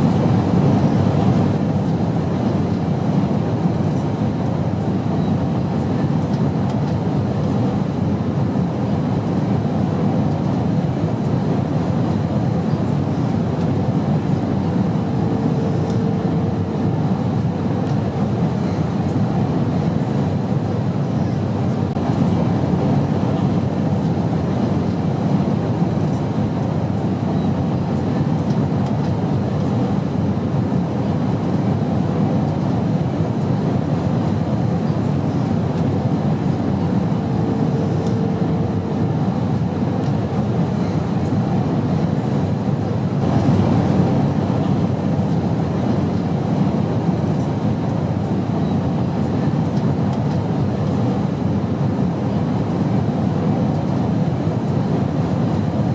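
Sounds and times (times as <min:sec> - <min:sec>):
airplane low rumble: 0:00.0 - 0:55.9.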